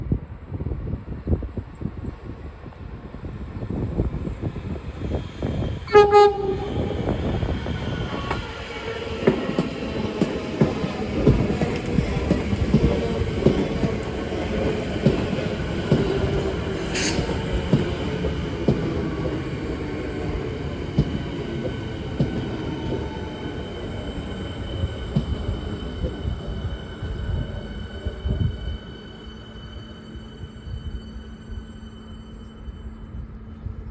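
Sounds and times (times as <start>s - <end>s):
electric train rumble: 0.0s - 33.9s.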